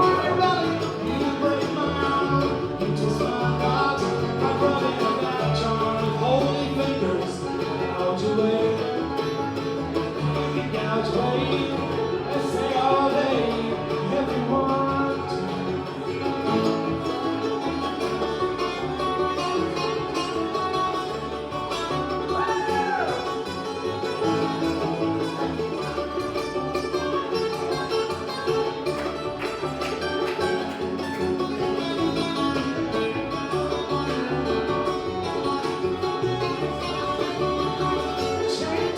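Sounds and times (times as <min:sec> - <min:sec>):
bluegrass band playing live: 0:00.0 - 0:38.9.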